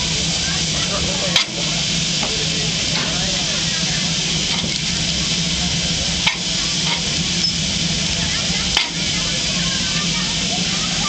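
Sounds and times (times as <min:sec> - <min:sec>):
steam engine hissing: 0:00.0 - 0:11.0.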